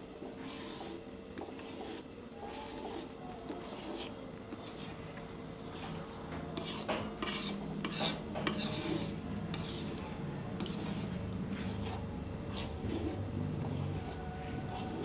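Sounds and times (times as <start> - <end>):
steady low hum: 0.0 - 15.0
metal ladle scraping a pan: 0.3 - 5.0, 6.6 - 15.0.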